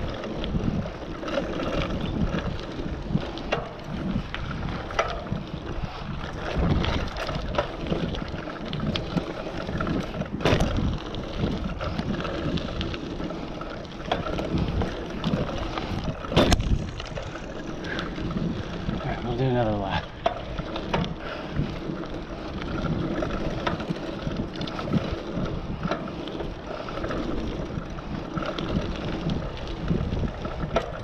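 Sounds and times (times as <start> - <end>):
bike rattling: 0.0 - 31.0
bike tyres on packed dirt: 0.0 - 31.0
wind buffeting microphone: 0.0 - 31.0.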